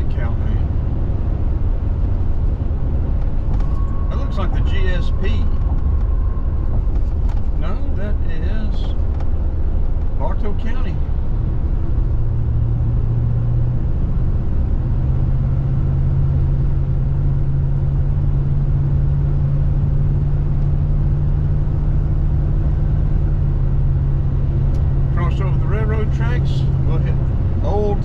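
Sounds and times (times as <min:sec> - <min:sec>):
car road and engine drone: 0:00.0 - 0:28.0.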